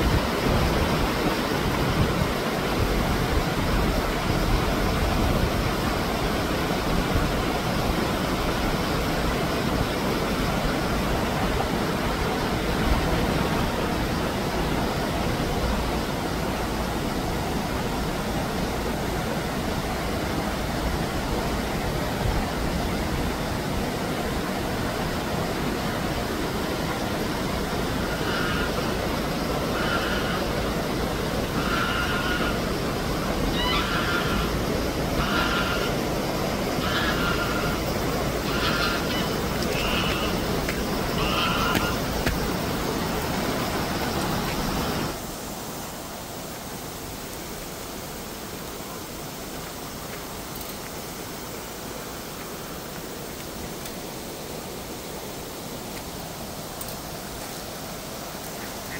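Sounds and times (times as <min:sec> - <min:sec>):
stream running over rocks: 0:00.0 - 0:58.9.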